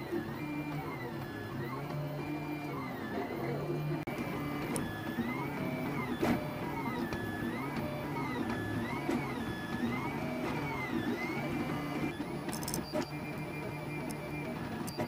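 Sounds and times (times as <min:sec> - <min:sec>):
stepper motors whining: 0:00.4 - 0:15.0.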